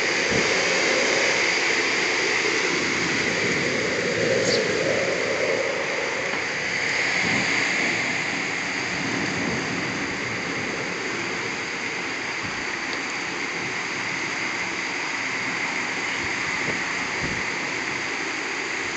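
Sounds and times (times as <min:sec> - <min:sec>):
torrential rain pouring: 0:00.0 - 0:18.9.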